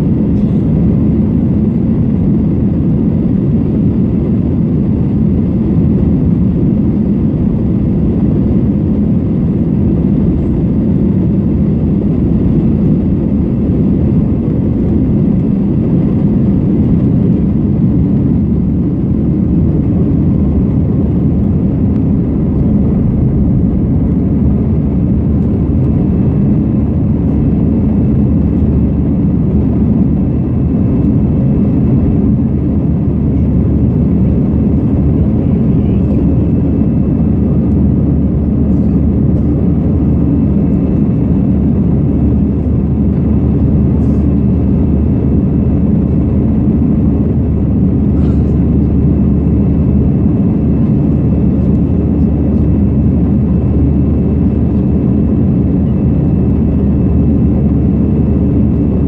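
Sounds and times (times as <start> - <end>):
jet engine cabin rush: 0.0 - 59.0.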